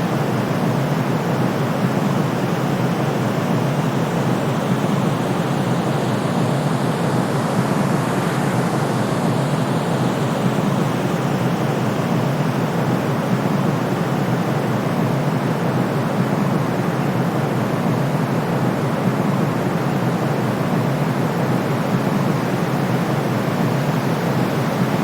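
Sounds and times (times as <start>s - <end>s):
white noise: 0.0s - 25.0s.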